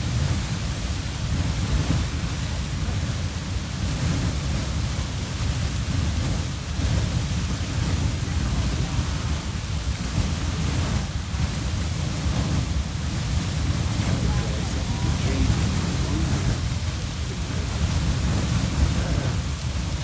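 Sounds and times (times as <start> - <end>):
geyser water and steam rushing: 0.0 - 20.0.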